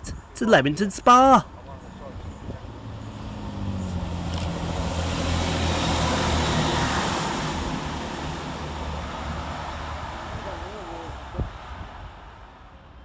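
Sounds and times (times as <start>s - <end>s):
rush of passing train: 2.0s - 13.0s.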